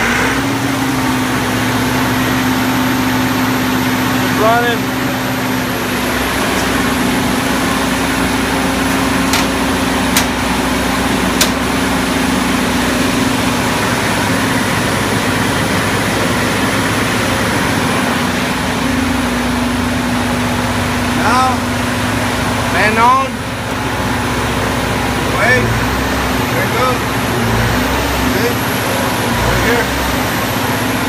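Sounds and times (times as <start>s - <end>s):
air conditioning unit humming: 0.0s - 31.0s.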